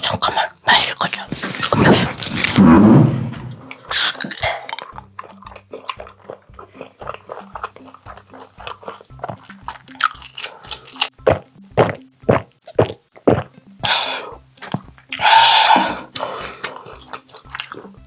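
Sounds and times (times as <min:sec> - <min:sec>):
wet chewing close up: 0:00.0 - 0:02.8, 0:03.6 - 0:18.0
soft background music: 0:00.0 - 0:18.0.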